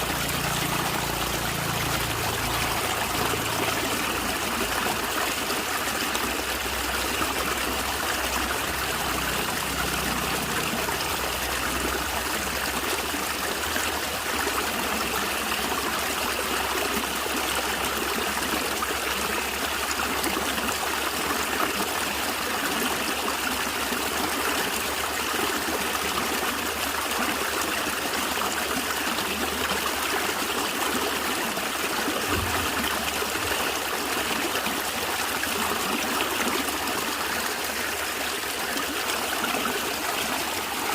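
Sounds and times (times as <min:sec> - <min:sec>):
stream gurgling: 0:00.0 - 0:40.9.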